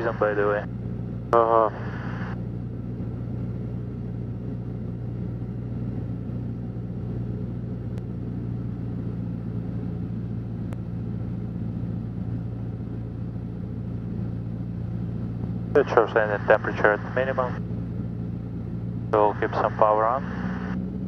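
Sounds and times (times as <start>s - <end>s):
aircraft engine and propeller droning: 0.0s - 21.0s.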